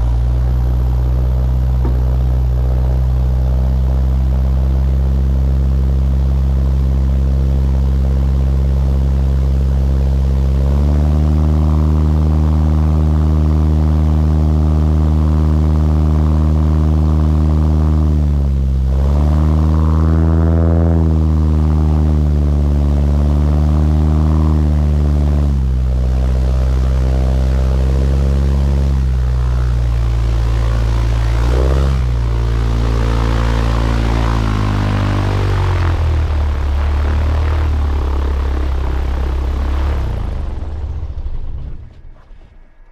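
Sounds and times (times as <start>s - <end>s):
small plane engine and propeller: 0.0s - 42.9s.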